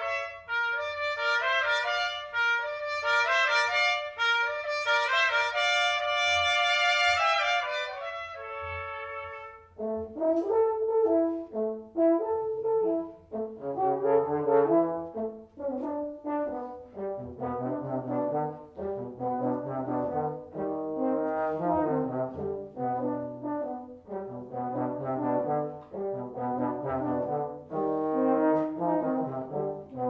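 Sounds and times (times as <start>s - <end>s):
brass quintet playing: 0.0s - 30.0s.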